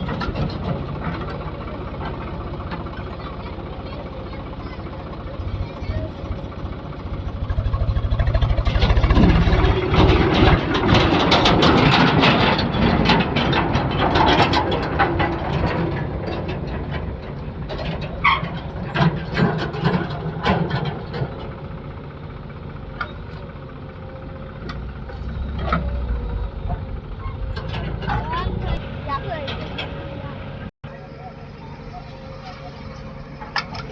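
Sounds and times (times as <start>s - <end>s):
diesel machinery running: 0.0s - 33.9s.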